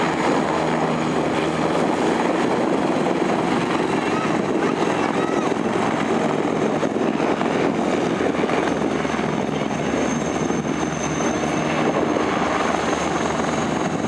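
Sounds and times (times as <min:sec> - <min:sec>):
helicopter engine rumble: 0:00.0 - 0:14.0
helicopter rotor chop: 0:00.0 - 0:14.0
turbine whine: 0:00.0 - 0:14.0.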